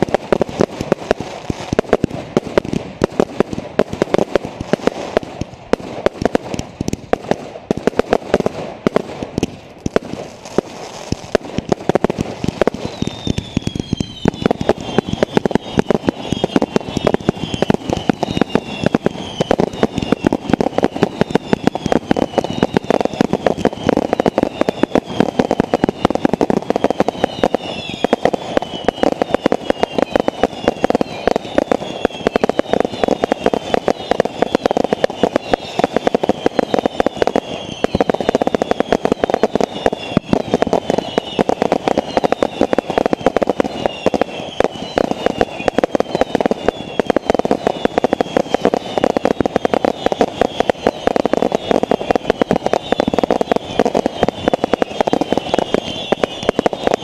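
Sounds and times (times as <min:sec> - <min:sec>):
fireworks crackling bangs: 0:00.0 - 0:57.0
whistling fireworks: 0:00.0 - 0:57.0.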